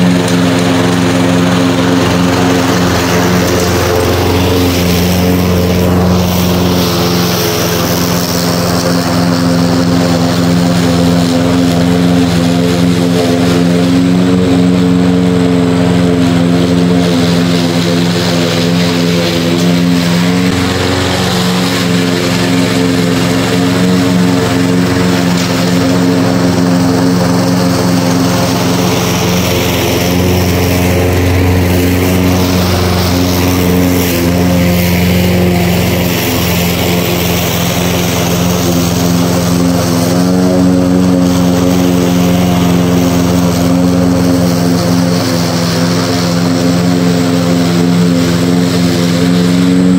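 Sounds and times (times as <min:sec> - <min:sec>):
lawn mower engine cutting grass: 0:00.0 - 0:49.9.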